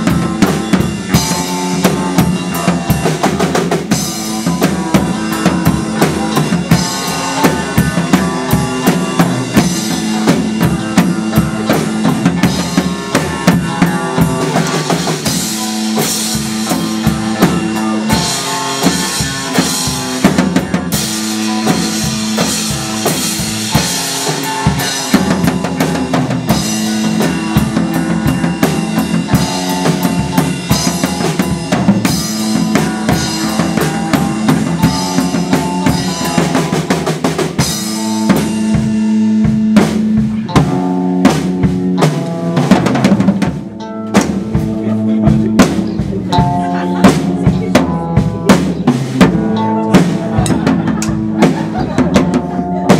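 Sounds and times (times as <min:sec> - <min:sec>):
band playing music: 0:00.0 - 0:52.9
drum kit kick and snare: 0:00.0 - 0:52.9.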